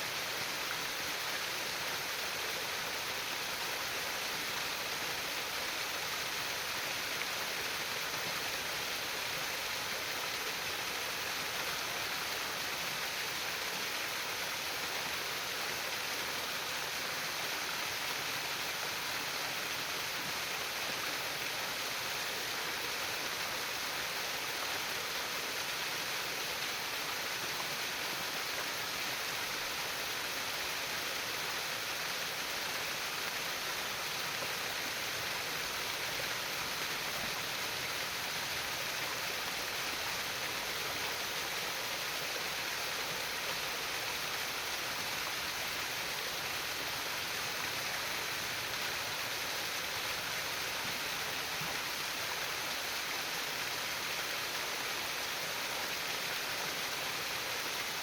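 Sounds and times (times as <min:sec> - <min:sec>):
water flowing in a stream: 0:00.0 - 0:58.0.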